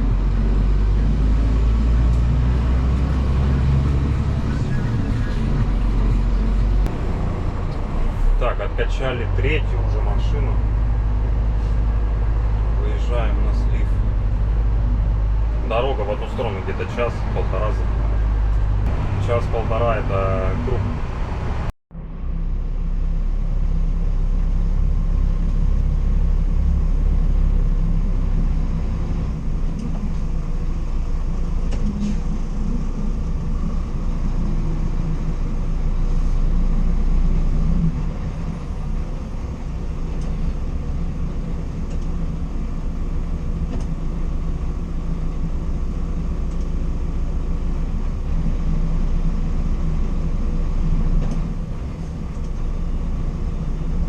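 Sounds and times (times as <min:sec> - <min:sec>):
road noise: 0:00.0 - 0:54.0
truck diesel engine droning: 0:00.0 - 0:54.0.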